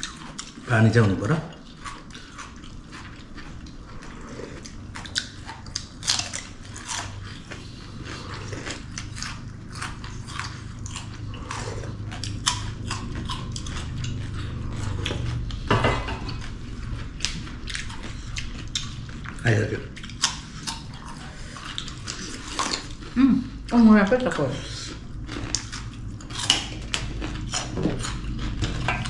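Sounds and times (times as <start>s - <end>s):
chewing and biting: 0.0s - 29.0s
low hum: 0.0s - 29.0s.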